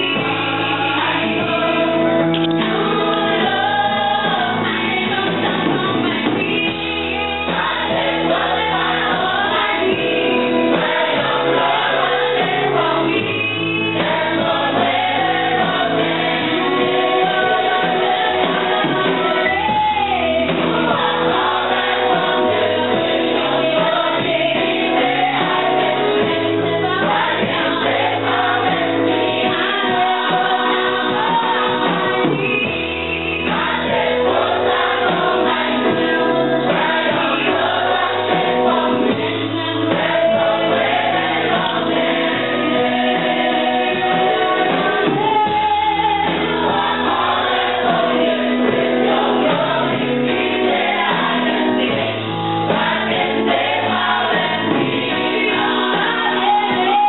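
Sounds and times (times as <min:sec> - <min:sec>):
woman singing into a microphone: 0:00.0 - 0:07.9, 0:12.2 - 0:32.7, 0:34.9 - 0:40.8, 0:41.4 - 0:57.0
choir singing a hymn: 0:00.0 - 0:57.0.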